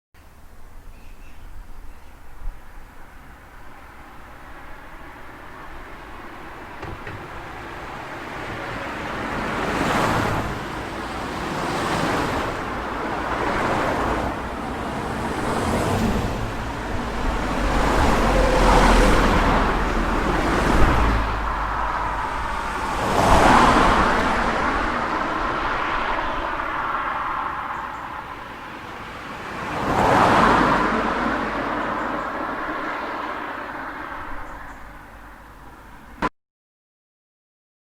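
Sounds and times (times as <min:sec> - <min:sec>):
cars passing: 0:02.2 - 0:36.3.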